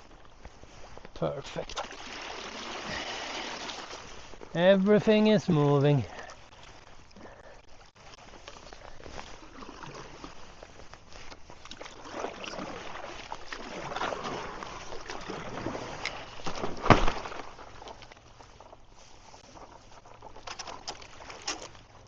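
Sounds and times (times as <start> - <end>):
river ice crackling and grinding: 0.0 - 22.0
water sloshing: 0.0 - 22.0.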